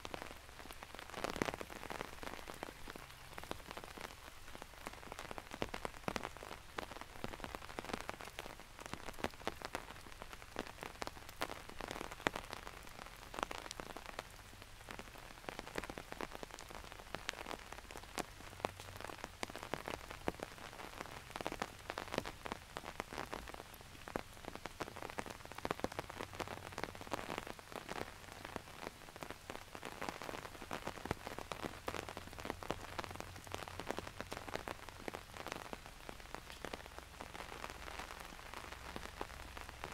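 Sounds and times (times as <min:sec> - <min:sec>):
rain drops pattering: 0:00.0 - 0:39.9
soft wash of rainfall: 0:00.0 - 0:39.9.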